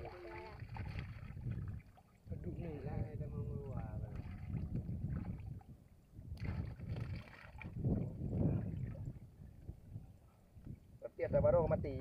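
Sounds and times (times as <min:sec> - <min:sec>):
water splashing and sloshing: 0:00.0 - 0:09.8.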